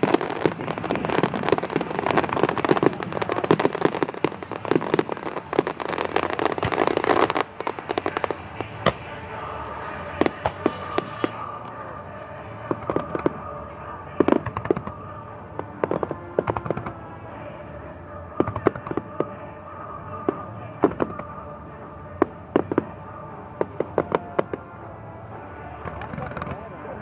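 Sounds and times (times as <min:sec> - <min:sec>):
fireworks cracking and banging: 0:00.0 - 0:27.0.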